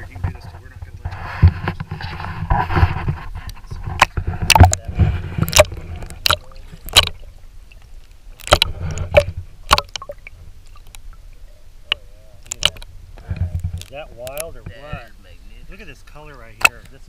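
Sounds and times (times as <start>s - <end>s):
water splashing against boat: 0.0s - 17.0s.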